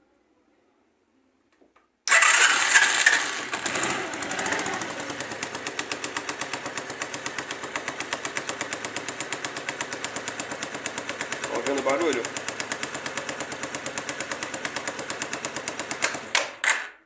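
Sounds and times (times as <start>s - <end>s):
scooter engine starting and idling: 2.1s - 17.0s.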